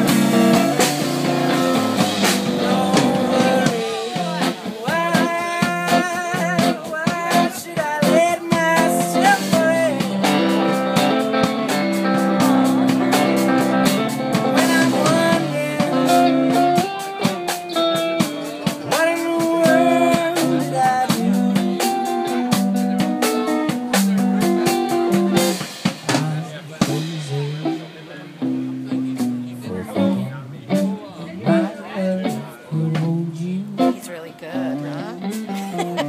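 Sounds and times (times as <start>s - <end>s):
drum kit steady beat: 0.0s - 36.0s
electric guitar bending notes: 0.0s - 36.0s.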